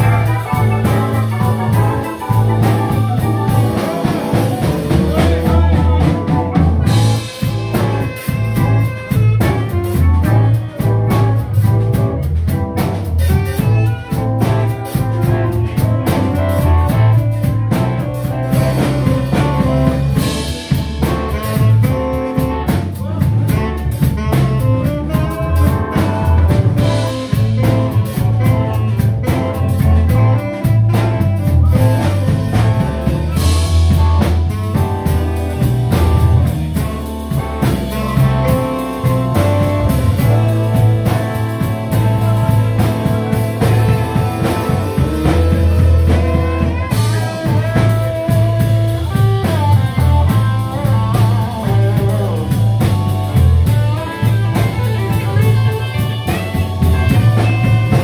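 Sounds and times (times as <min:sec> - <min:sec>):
live band playing instrumental: 0:00.0 - 0:58.0
saxophone: 0:00.0 - 0:58.0.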